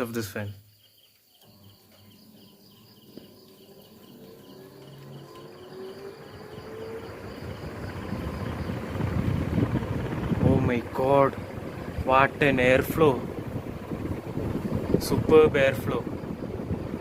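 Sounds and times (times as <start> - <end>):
faint crickets chirping: 0.0 - 17.0
ceiling fan motor hum: 1.3 - 17.0
fan air rushing: 1.4 - 17.0.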